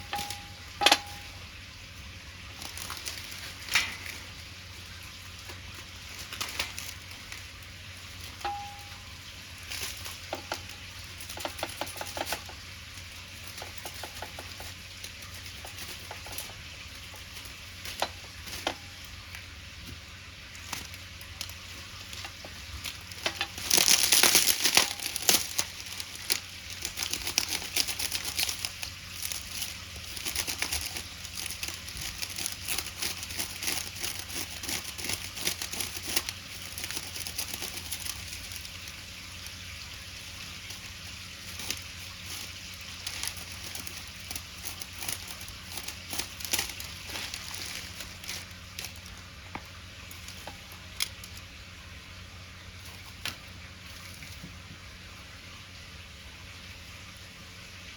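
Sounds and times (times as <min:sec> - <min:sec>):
fire crackles and clicks: 0:00.0 - 0:51.5
batter sizzling in a pan: 0:00.0 - 0:54.1.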